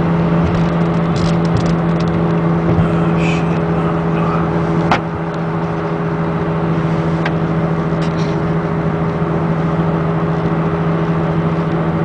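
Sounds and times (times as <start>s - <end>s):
tyre and road noise: 0.0s - 11.0s
low drone inside car cabin: 0.0s - 12.0s.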